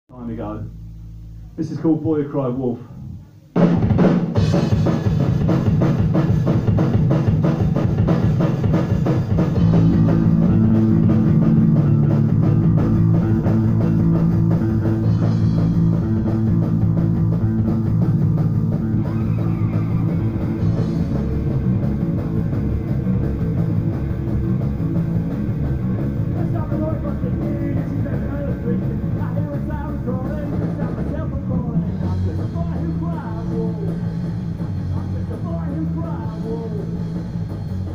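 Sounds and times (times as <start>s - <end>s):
bass guitar: 0.0s - 37.9s
drum kit: 0.1s - 37.9s
electric guitar: 3.0s - 37.9s.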